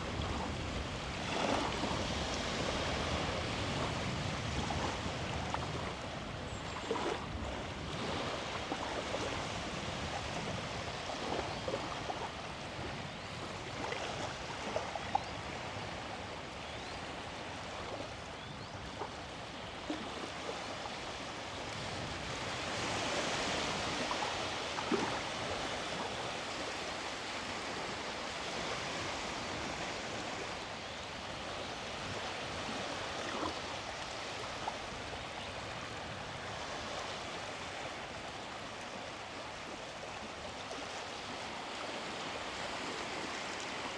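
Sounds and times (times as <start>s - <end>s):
sea waves washing on beach: 0.0s - 43.9s.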